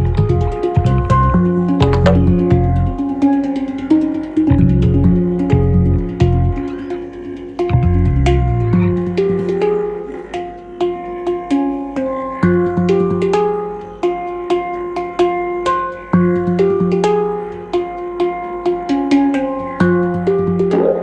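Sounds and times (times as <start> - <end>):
hang drum melody: 0.0 - 21.0.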